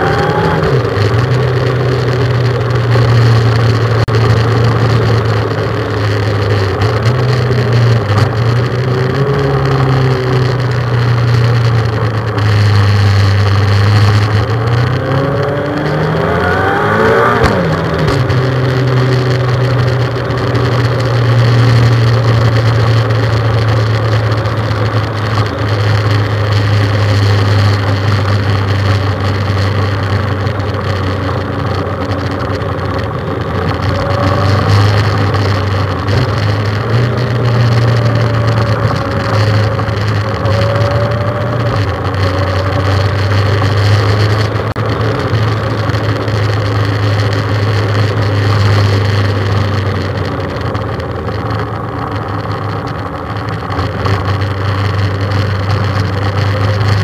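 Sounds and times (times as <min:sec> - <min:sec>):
motorcycle engine cruising: 0:00.0 - 0:57.0
road noise: 0:00.0 - 0:57.0.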